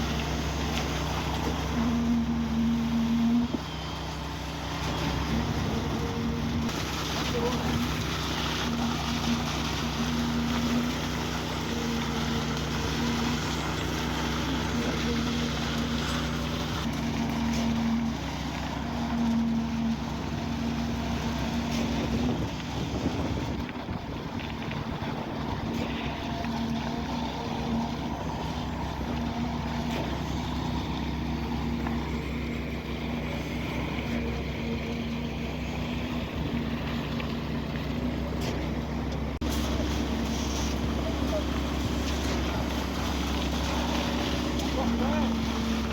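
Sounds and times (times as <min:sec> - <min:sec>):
heavy machinery engine humming: 0:00.0 - 0:45.9.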